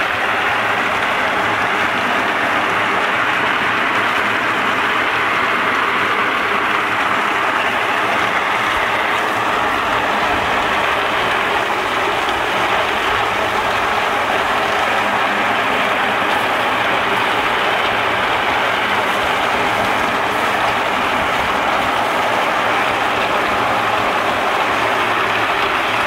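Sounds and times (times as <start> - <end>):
walnuts churning in steel drum: 0.0 - 26.0.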